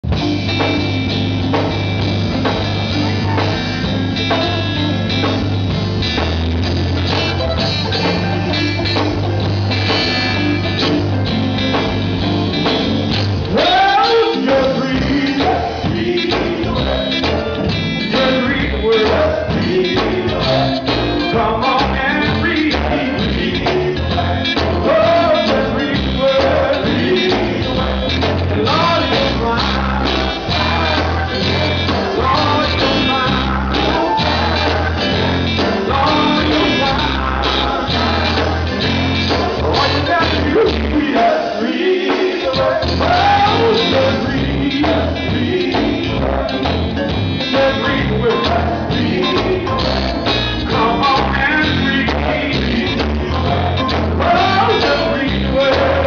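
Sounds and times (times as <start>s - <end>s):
gospel band playing: 0.0s - 56.0s
steady bass line: 0.0s - 56.0s
lead vocalist singing: 7.1s - 56.0s.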